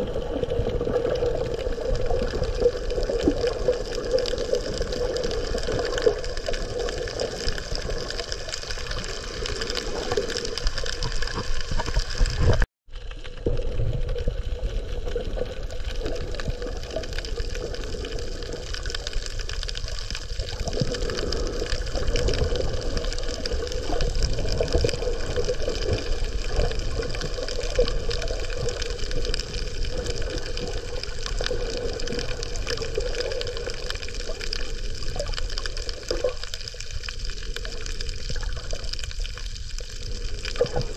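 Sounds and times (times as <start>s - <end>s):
muffled underwater water noise: 0.0s - 40.9s.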